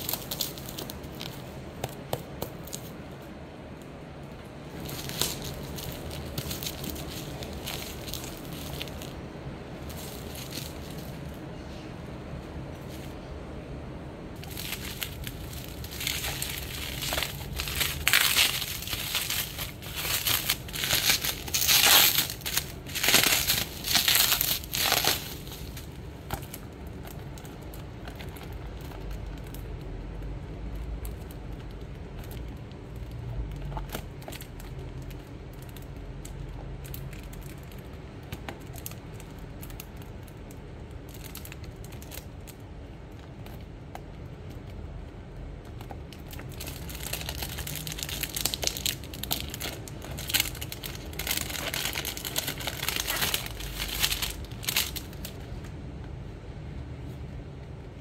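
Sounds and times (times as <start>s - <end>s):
bubble wrap crinkling: 0.0s - 13.3s, 14.4s - 55.8s.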